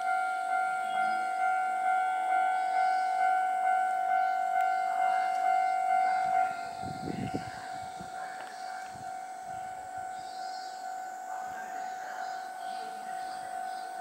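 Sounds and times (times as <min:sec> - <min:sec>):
level-crossing warning alarm: 0:00.0 - 0:14.0.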